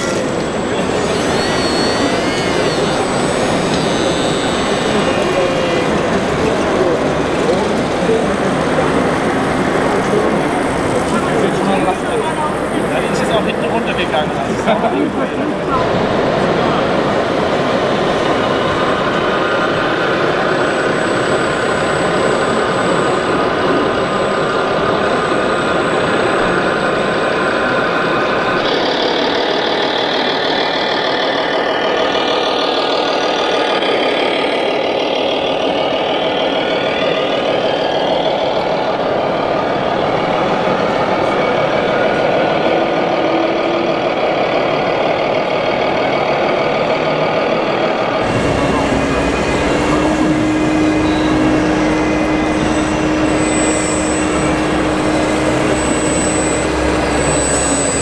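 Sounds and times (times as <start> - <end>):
simulated truck engine: 0.0 - 58.0.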